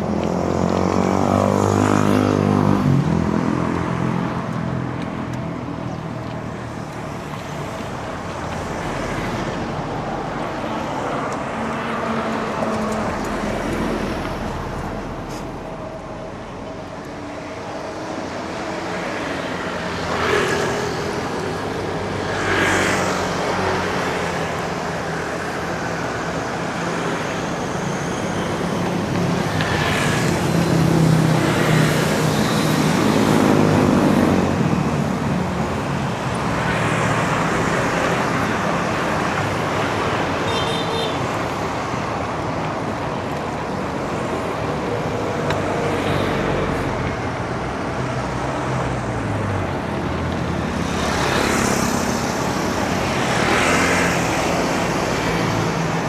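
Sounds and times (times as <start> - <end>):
steady traffic din: 0.0 - 56.0
vehicles passing close by: 0.0 - 56.0.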